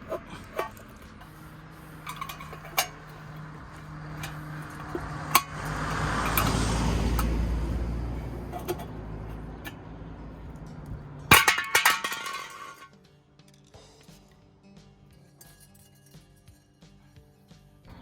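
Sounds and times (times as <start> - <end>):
metallic clinks and rattles: 0.0 - 9.8, 10.4 - 13.8, 15.3 - 16.8.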